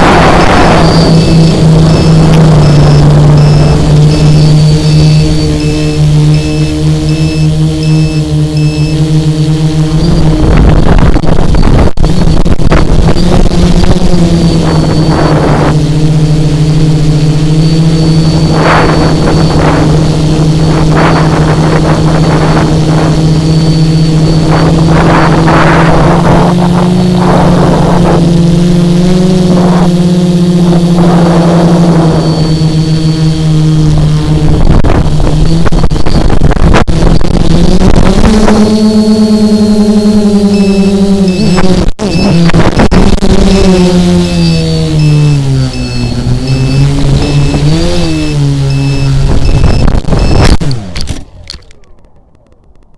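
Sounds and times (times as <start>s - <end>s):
rushing noise bursts: 0.0s - 51.2s
drone motors and propellers humming: 0.0s - 52.9s.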